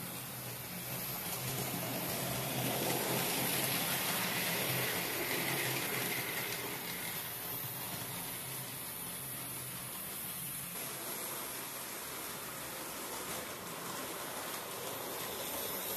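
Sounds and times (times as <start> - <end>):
model train wheels rumbling on rail: 0.0 - 15.9.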